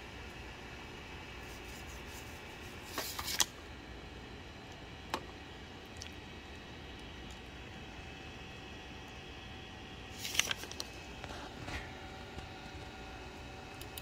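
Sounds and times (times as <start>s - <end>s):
printer fan hum: 0.0s - 14.0s.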